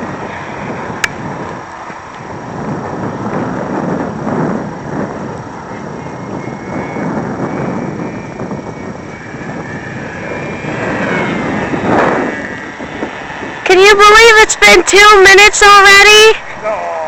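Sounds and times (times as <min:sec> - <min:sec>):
model plane motor whine: 0:00.0 - 0:16.4
wind buffeting microphone: 0:00.0 - 0:17.0.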